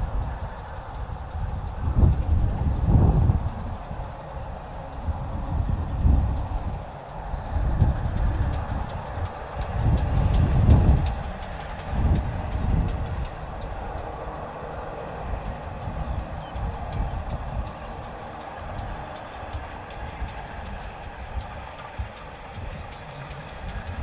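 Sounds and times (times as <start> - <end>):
distant train rumble: 0.0 - 24.0
regular light ticking of train: 0.0 - 24.0.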